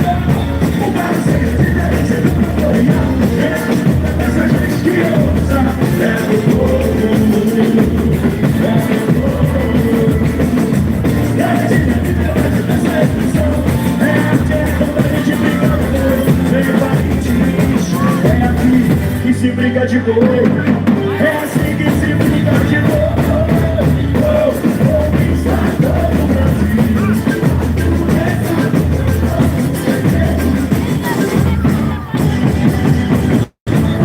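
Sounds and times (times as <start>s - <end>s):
heavy drums beating: 0.0s - 19.4s, 20.2s - 34.0s
band playing: 0.0s - 34.0s
person singing: 0.0s - 34.0s.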